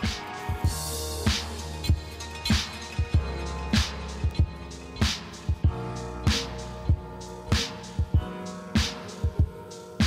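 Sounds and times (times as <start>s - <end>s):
instrumental music with drum beat: 0.0s - 10.0s.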